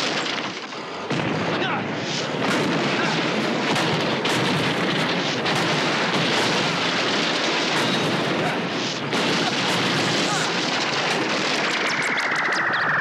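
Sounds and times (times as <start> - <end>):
metal crushing din: 0.0 - 12.6.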